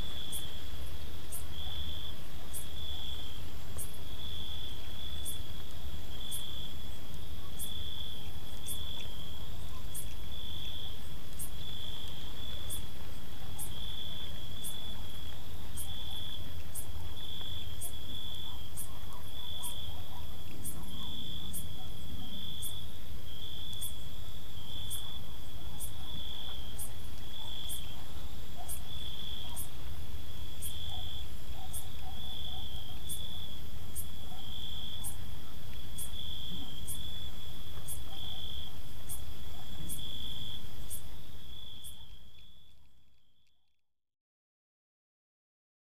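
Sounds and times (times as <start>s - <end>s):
crickets chirping: 0.0s - 43.8s.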